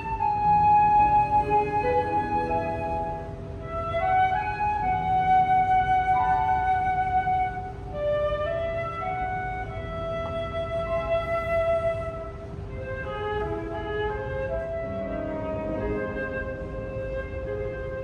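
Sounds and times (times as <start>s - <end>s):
slow instrumental music: 0.0s - 18.0s.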